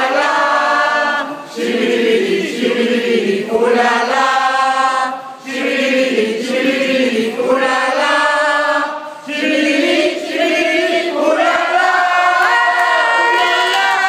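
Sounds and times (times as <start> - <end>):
men singing in chorus: 0.0 - 12.6.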